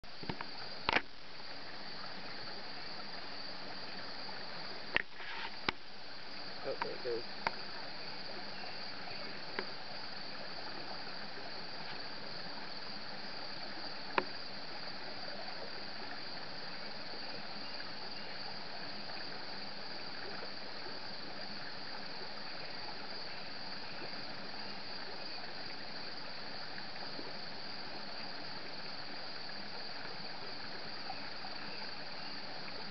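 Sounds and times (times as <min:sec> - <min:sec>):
creek rushing: 0:00.1 - 0:32.9.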